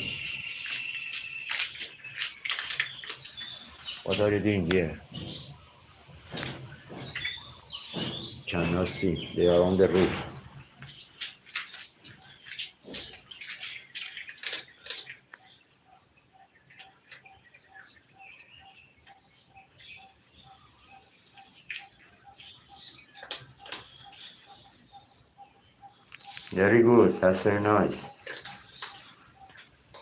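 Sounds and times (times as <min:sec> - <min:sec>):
high-pitched insect drone: 0:00.0 - 0:29.7.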